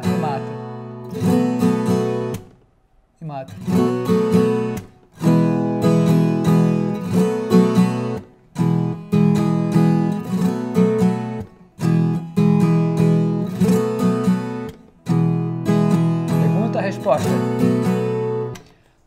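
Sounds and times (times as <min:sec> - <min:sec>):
folk guitar strummed and picked: 0:00.0 - 0:02.6, 0:03.5 - 0:19.0.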